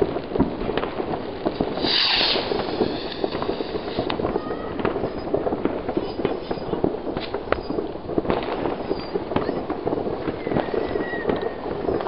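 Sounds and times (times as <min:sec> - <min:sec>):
firecrackers popping: 0:00.0 - 0:12.0
firework hiss: 0:00.0 - 0:12.0
loud firework cracks: 0:00.0 - 0:12.0.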